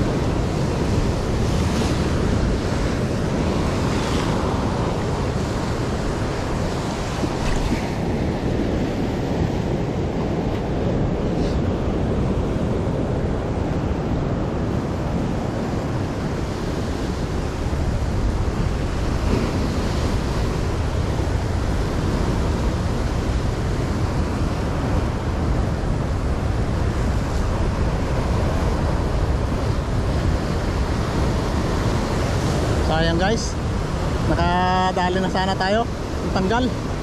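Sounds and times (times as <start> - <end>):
surf crashing against rocks: 0.0 - 37.0.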